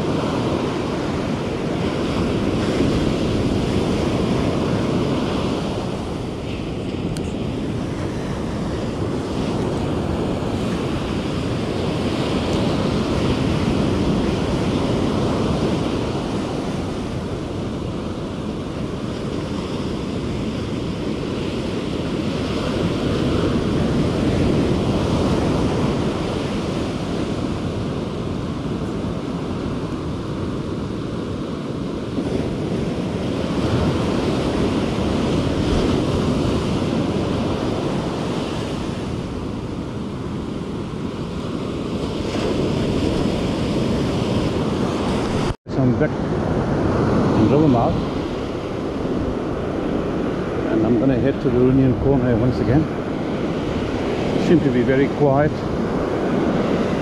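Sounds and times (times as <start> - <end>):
ocean surf breaking on beach: 0.0 - 57.0
wind buffeting microphone: 0.0 - 57.0.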